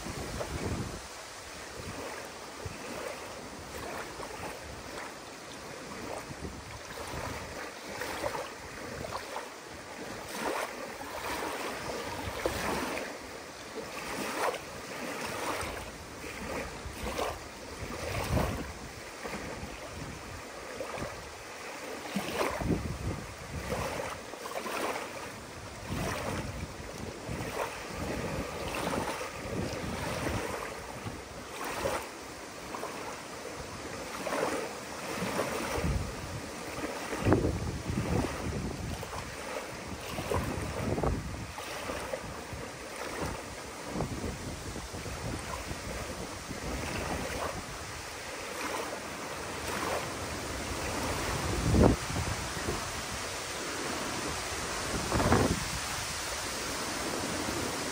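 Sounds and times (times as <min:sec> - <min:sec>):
wind buffeting microphone: 0:00.0 - 0:13.2, 0:13.8 - 0:21.4, 0:22.2 - 0:24.3, 0:24.9 - 0:32.0, 0:32.9 - 0:48.9, 0:49.6 - 0:57.9
waves lapping on sandy shore: 0:00.0 - 0:57.9.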